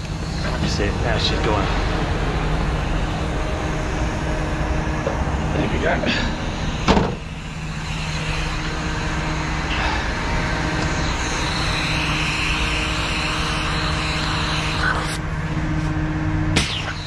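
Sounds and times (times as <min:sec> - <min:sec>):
diesel truck engine idling: 0:00.0 - 0:16.4
hiss: 0:00.0 - 0:17.0.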